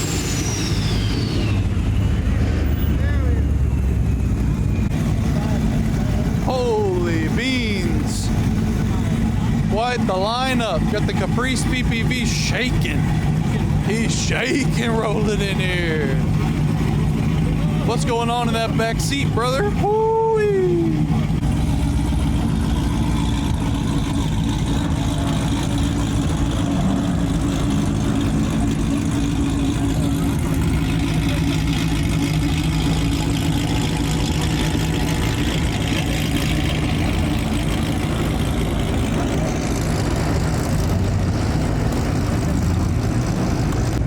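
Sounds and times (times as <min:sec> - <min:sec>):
car engines rolling past: 0:00.0 - 0:44.0.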